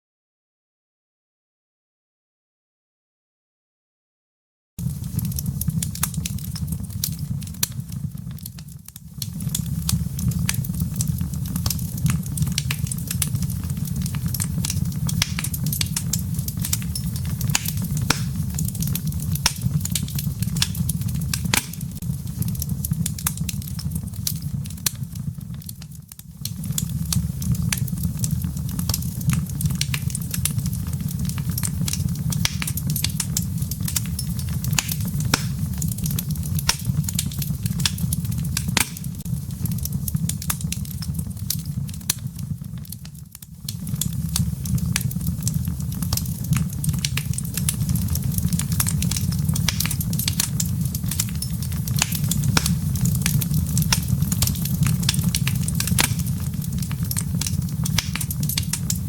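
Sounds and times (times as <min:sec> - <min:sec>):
fire crackling and popping: 0:04.8 - 0:59.0
low rumble of flames: 0:04.8 - 0:59.0.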